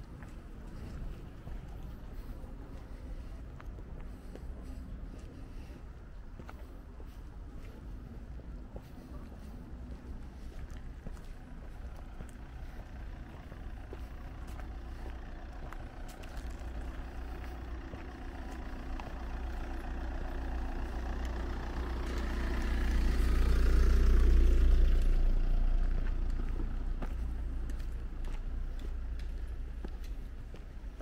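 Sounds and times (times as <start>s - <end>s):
vehicle passing by: 0.2s - 31.0s.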